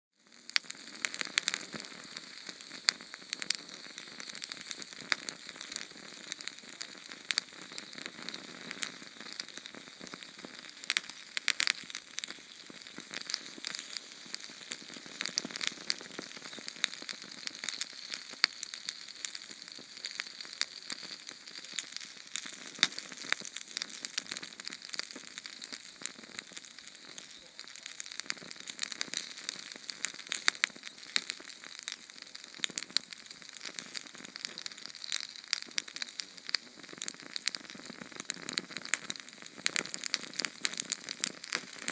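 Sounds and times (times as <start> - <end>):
small flame hissing and crackling: 0.2 - 41.9.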